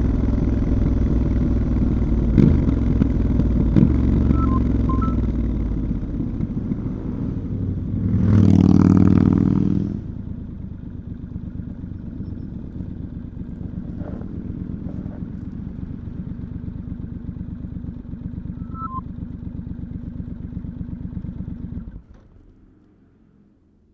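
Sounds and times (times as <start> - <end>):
motorcycle engine idling: 0.0 - 6.8, 10.0 - 22.8.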